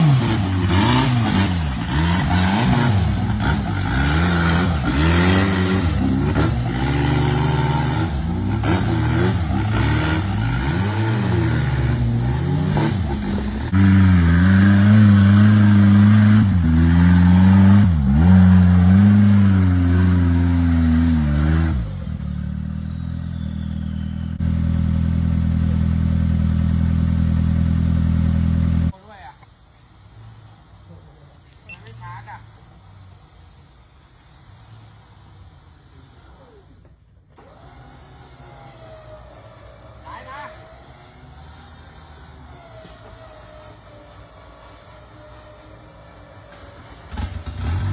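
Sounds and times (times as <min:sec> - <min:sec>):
engine revving under load: 0:00.0 - 0:29.0, 0:31.6 - 0:47.9.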